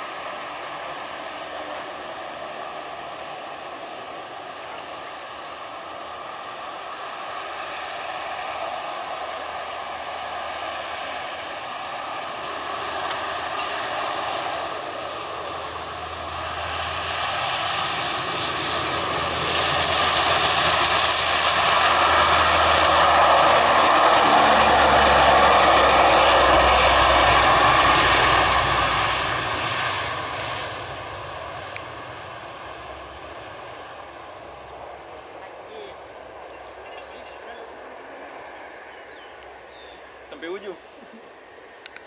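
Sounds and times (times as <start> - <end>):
high turbine whine: 0.0 - 42.0
turboprop aircraft taking off: 0.0 - 42.0.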